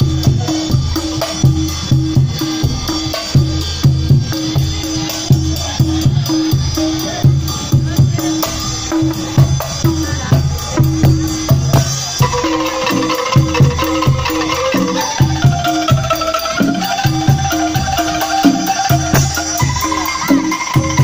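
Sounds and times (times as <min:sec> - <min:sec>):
deep repeated beats: 0:00.0 - 0:21.0
higher held melody line: 0:00.0 - 0:21.0
shaken bamboo angklung notes: 0:00.0 - 0:21.0.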